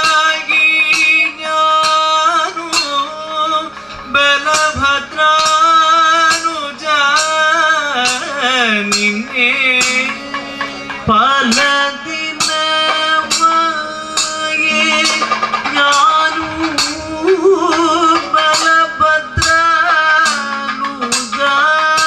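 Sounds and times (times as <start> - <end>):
drums playing steady beat: 0.0 - 22.0
man singing ornamented song: 0.0 - 22.0.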